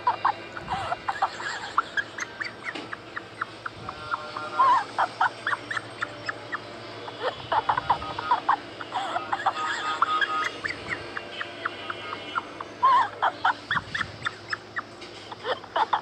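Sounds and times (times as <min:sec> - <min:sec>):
small animal squeaking and yipping: 0:00.0 - 0:16.0.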